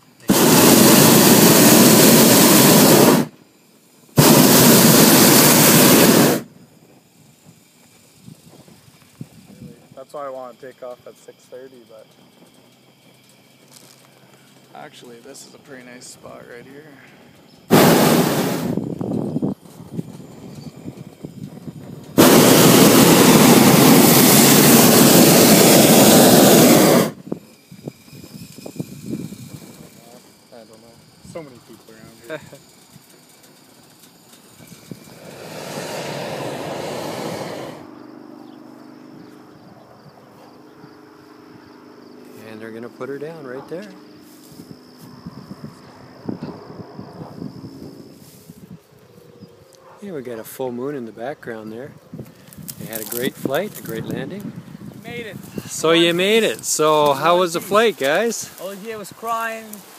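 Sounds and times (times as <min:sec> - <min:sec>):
propane burner roaring: 0:00.0 - 0:59.9.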